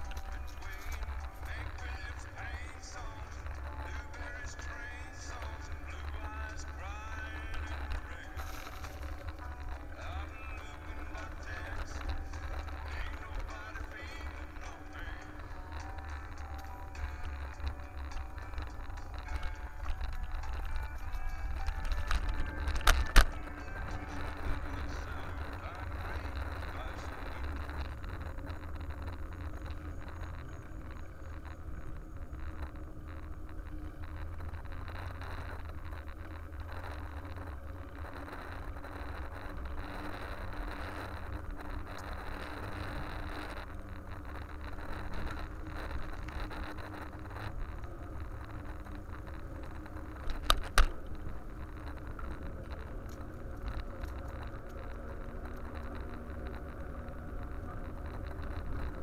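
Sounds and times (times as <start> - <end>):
road noise: 0.0 - 59.0
wind rumble on microphone: 0.0 - 59.0.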